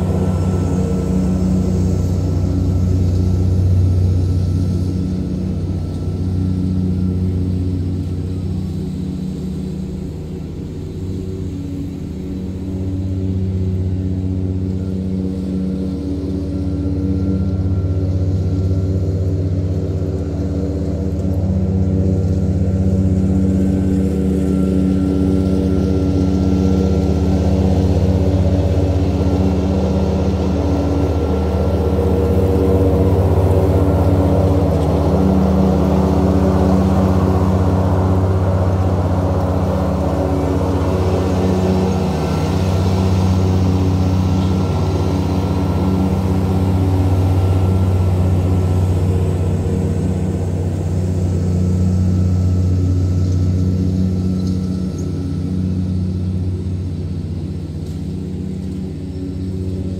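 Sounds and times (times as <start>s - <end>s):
mower engine humming: 0.0s - 59.9s.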